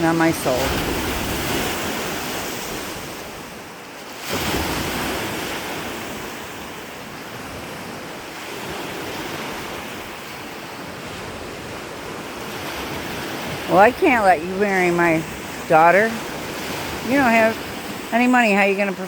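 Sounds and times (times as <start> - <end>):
rushing surf: 0.0 - 19.0.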